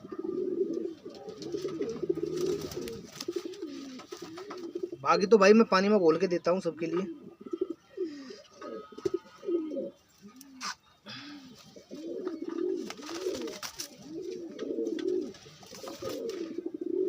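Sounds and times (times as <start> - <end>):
pigeons cooing: 0.0 - 5.3, 6.8 - 17.0.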